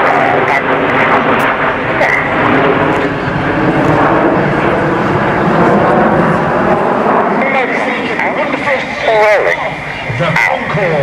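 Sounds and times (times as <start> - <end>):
jets flying overhead: 0.0 - 11.0.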